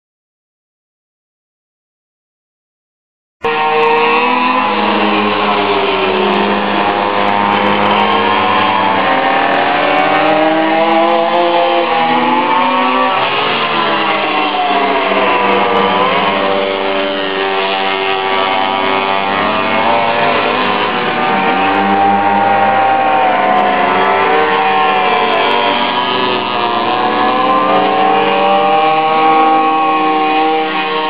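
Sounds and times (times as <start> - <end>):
minibike engines revving: 3.5 - 31.0.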